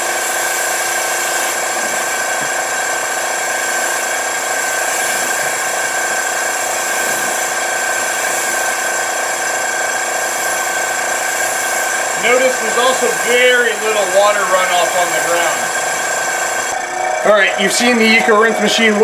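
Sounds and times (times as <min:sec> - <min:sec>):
rinse pump whining: 0:00.0 - 0:19.0
water spraying onto car: 0:00.1 - 0:16.8.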